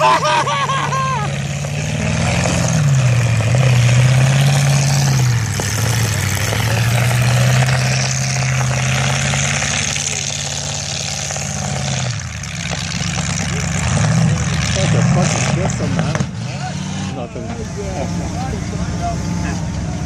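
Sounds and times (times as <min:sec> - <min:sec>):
car engine droning: 0:00.0 - 0:20.0
engines running loud: 0:00.0 - 0:20.0.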